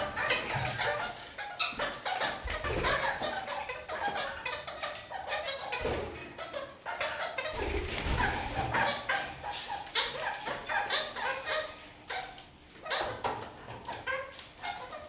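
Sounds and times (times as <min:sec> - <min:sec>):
parakeets chattering: 0:00.0 - 0:15.0.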